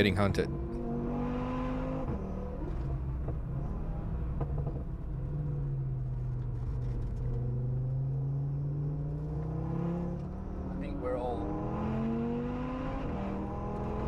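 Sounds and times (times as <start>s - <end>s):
car engine at speed: 0.0s - 14.0s.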